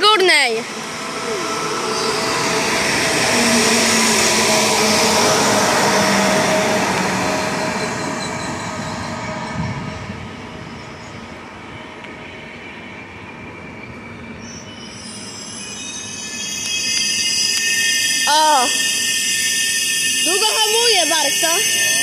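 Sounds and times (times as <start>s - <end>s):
train rolling past on rails: 0.0s - 22.0s
high-pitched brake squeal: 0.5s - 22.0s.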